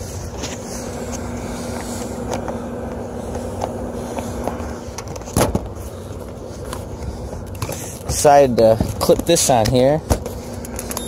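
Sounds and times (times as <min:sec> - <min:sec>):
heating unit humming: 0:00.0 - 0:11.0.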